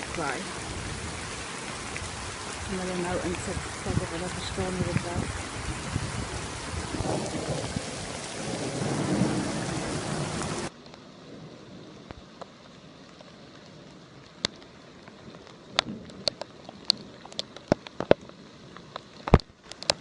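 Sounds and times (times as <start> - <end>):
heavy rain falling: 0.0 - 20.0
quiet rain patter: 0.0 - 20.0.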